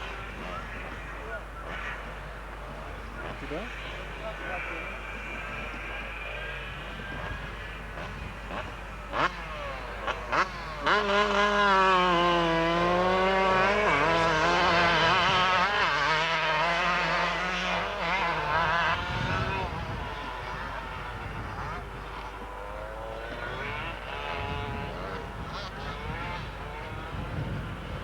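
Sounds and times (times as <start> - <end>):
motocross motorcycle engine revving: 0.0 - 28.0.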